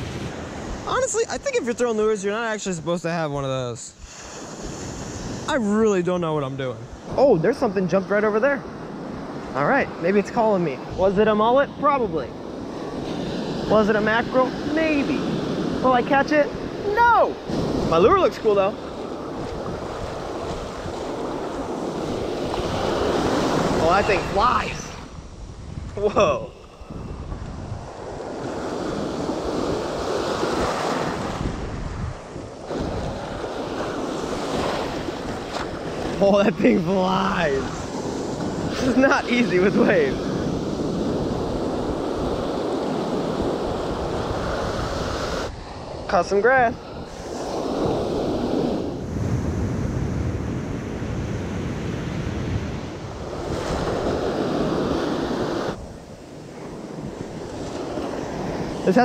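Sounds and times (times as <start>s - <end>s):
ocean surf breaking: 0.0s - 2.8s, 3.9s - 59.0s
wind rumbling on microphone: 0.0s - 2.8s, 4.0s - 59.0s.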